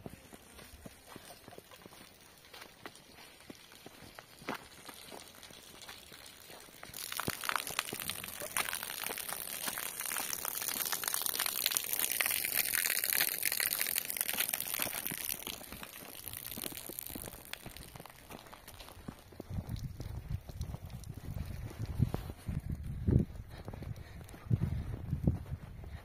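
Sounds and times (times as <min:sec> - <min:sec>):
footsteps crunching through snow: 0:00.0 - 0:10.8, 0:14.4 - 0:26.0.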